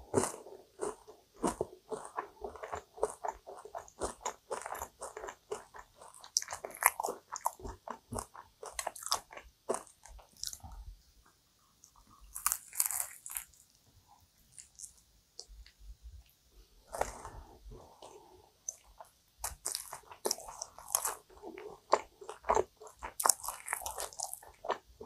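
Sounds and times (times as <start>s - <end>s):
person chewing crunchy pastry: 0.0s - 10.9s, 11.8s - 13.8s, 14.4s - 15.8s, 16.8s - 25.0s.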